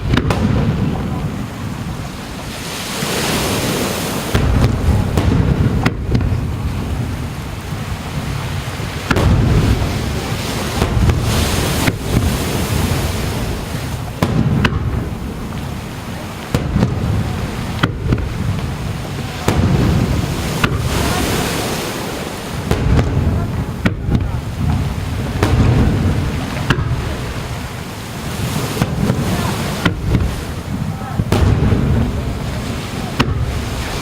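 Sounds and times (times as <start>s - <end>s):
fireworks booming: 0.0s - 34.0s
sharp firework cracks: 0.0s - 34.0s.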